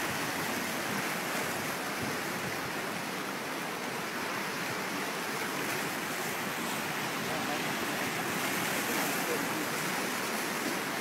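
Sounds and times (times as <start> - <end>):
flood water rushing: 0.0 - 11.0.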